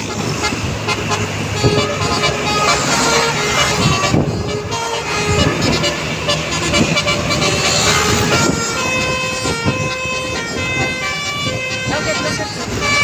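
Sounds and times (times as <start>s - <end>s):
bus horn playing a tune: 0.0s - 13.0s
vehicle noise: 0.0s - 13.0s.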